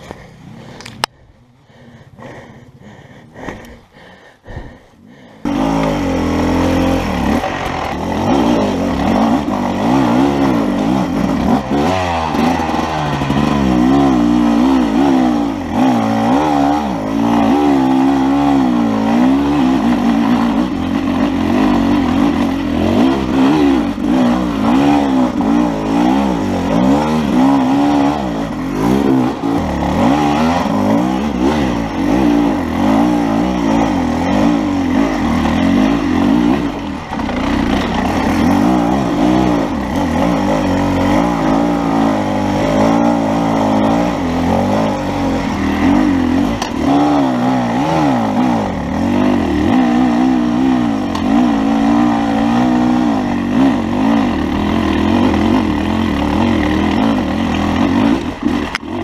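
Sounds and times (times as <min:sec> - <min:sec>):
dirt bike engine revving: 0:05.2 - 0:59.0.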